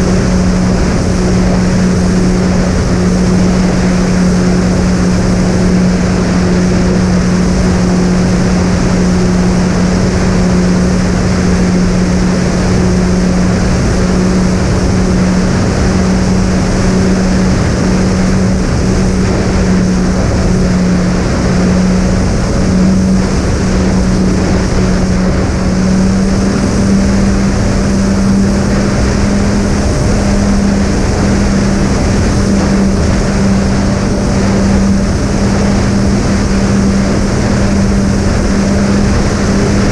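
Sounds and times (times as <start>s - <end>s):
drone motors humming: 0.0s - 39.9s
wind rushing: 0.0s - 39.9s.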